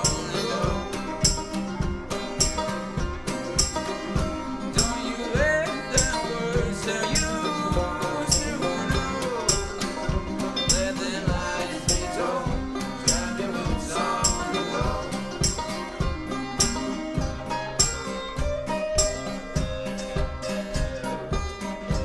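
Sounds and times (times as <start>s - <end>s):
acoustic folk string band: 0.0s - 22.0s.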